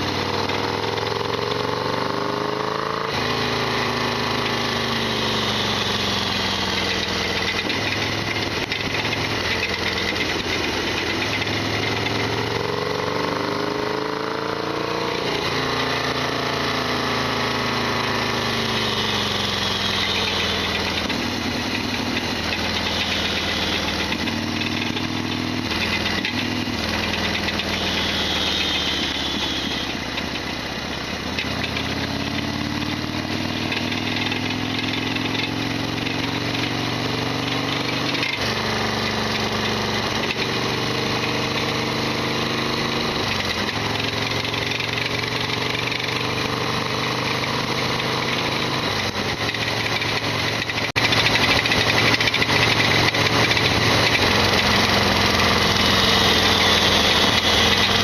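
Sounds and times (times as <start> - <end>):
engine rattling and clattering: 0.0 - 58.0
motorcycle engine revving: 0.0 - 58.0.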